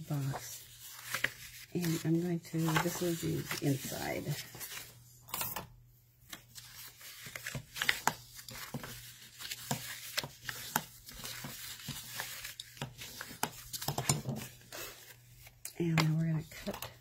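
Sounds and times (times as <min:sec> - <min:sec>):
paper crinkling and rubbing: 0:00.0 - 0:05.0, 0:06.2 - 0:17.0.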